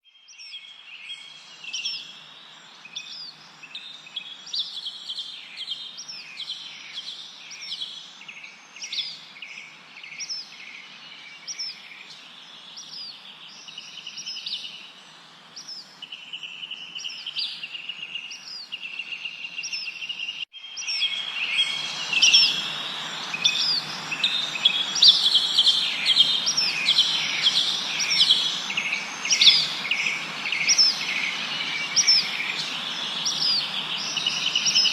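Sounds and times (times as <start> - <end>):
songbirds chirping and whistling: 0.0 - 34.9
steady background hiss: 0.7 - 34.9.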